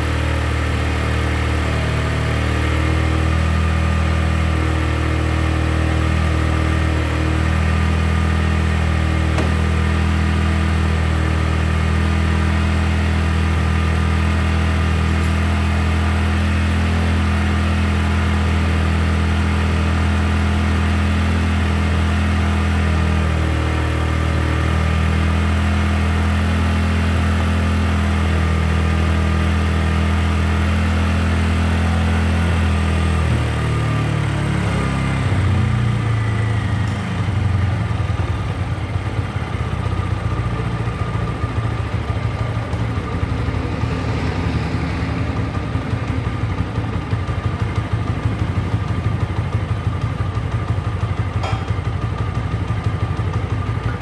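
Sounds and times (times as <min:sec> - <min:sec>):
motorcycle engine idling: 0:00.1 - 0:26.1, 0:32.4 - 0:54.0.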